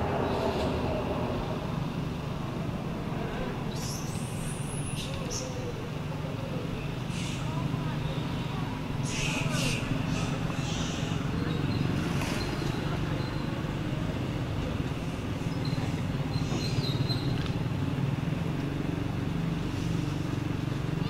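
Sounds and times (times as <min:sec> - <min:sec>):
low rumble of motor traffic: 0:00.0 - 0:21.0.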